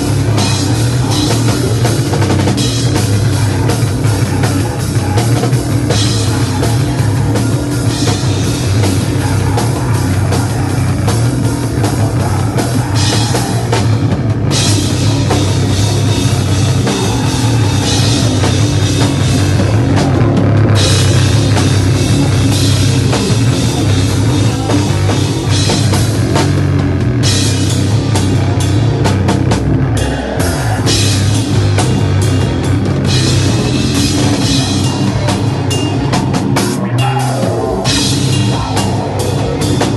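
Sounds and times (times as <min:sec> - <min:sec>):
drums and cymbals: 0:00.0 - 0:39.9
hardcore band playing live: 0:00.0 - 0:39.9.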